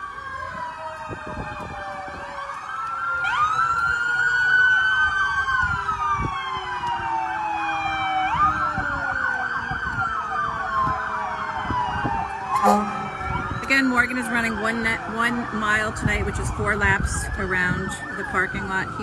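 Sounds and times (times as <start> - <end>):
lower siren falling in pitch: 0.0 - 19.0
police siren wailing: 0.0 - 19.0.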